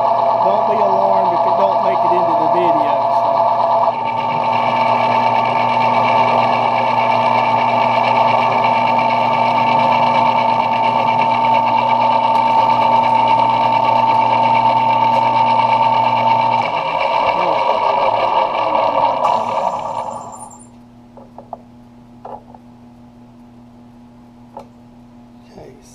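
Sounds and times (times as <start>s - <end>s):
metal lathe whining: 0.0s - 20.8s
motor hum: 0.0s - 25.8s.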